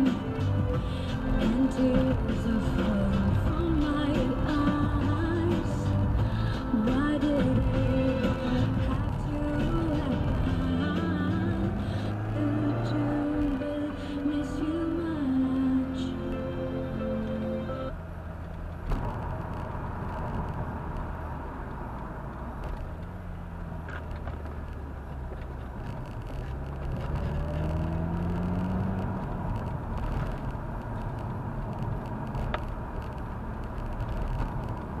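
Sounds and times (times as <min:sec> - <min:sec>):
car engine and tyre noise: 0:00.0 - 0:35.0.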